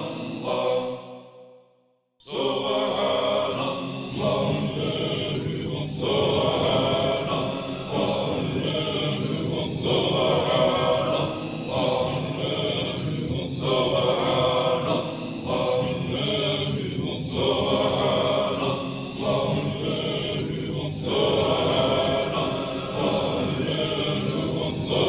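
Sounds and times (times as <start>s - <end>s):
chanted singing: 0.0s - 1.4s, 2.2s - 25.0s.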